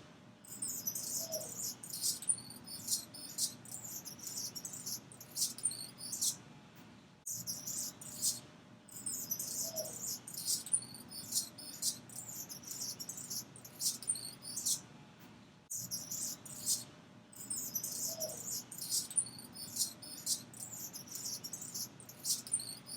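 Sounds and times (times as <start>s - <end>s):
hummingbird chirping: 0.5s - 6.4s, 7.3s - 14.8s, 15.7s - 16.8s, 17.4s - 22.9s.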